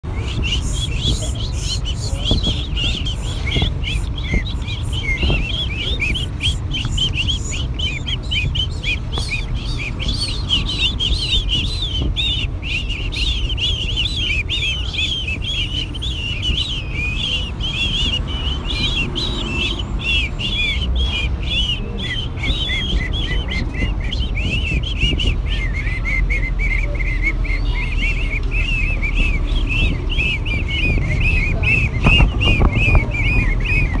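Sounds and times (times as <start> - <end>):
small birds twittering: 0.0 - 34.0.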